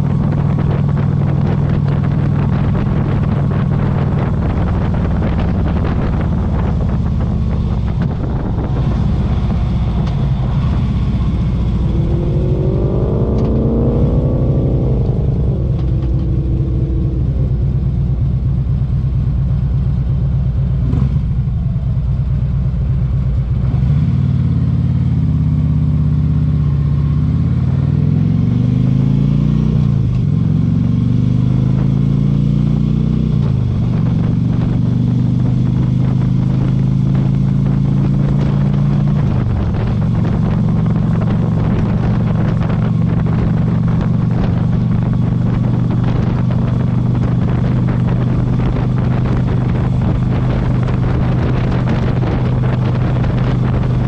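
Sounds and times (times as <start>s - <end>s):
v-twin engine running: 0.0s - 12.0s, 14.9s - 28.0s, 29.8s - 54.0s.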